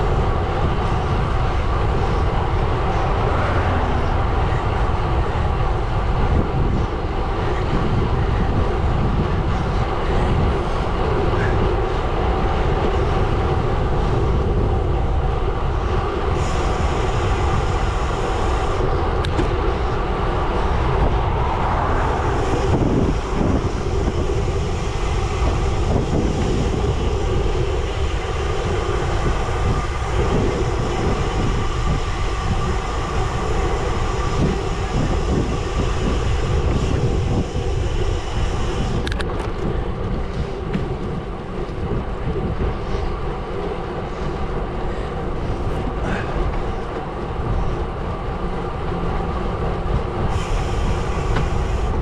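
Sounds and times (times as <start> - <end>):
wind on microphone: 0.0 - 52.0.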